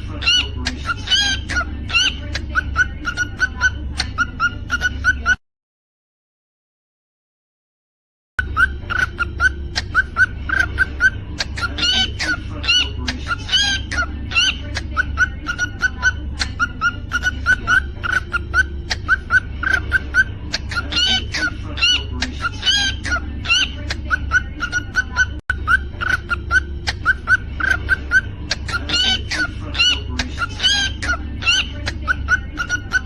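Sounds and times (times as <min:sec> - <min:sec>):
cockatiel chirping: 0:00.0 - 0:05.4, 0:08.4 - 0:33.0.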